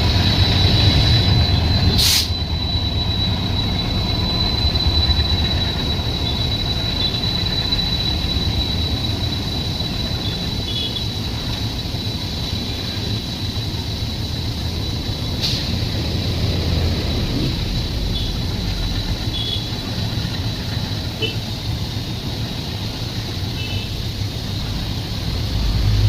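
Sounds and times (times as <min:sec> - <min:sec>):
thin high whine: 0:00.0 - 0:26.0
train rumbling: 0:00.0 - 0:26.0.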